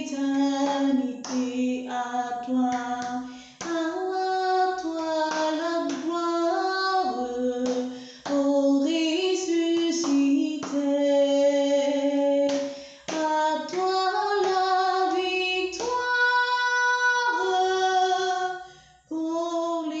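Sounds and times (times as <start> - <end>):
woman singing a hymn: 0.0 - 20.0.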